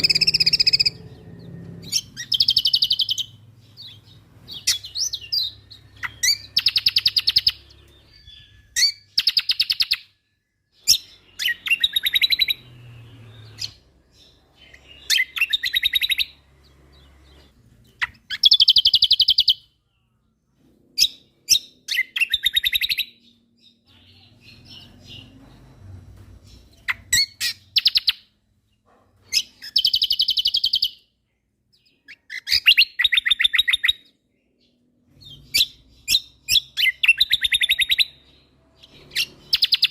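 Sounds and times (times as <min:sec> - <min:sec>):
songbird singing with rattling trills: 0:00.0 - 0:39.9.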